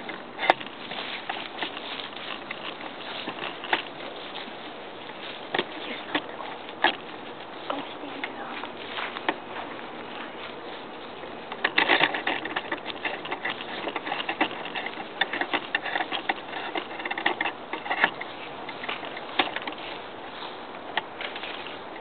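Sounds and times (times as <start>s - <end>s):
footsteps crunching on dry leaves: 0.0s - 22.0s.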